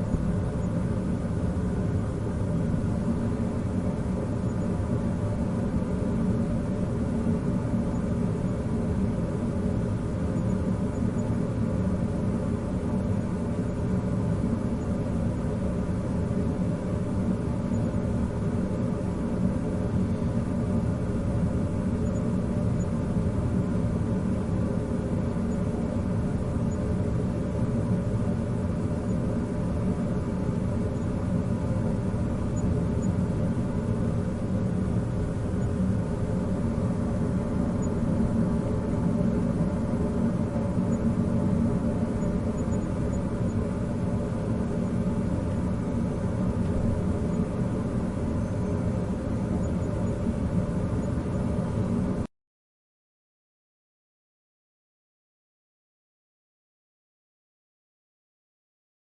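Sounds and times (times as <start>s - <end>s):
air vent blowing: 0.0s - 52.3s.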